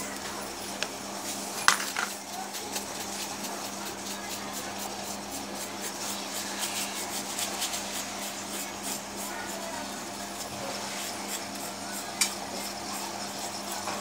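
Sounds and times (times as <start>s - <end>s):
paintbrush scrubbing on canvas: 2.2s - 14.0s.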